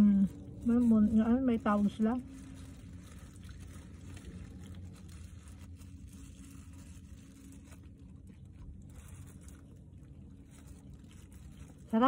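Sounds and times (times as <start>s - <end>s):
faint low hum: 0.0s - 12.0s
plastic bag rustling: 0.0s - 12.0s.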